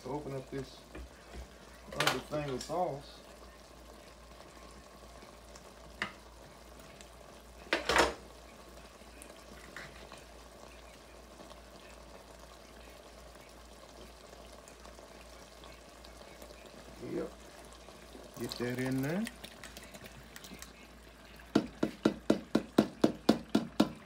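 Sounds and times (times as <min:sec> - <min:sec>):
meat sizzling in a pot: 0:00.0 - 0:24.0.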